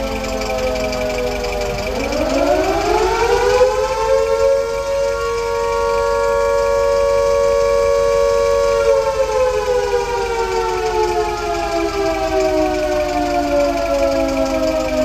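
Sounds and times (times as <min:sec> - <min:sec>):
civil defence siren wailing: 0:00.0 - 0:15.0.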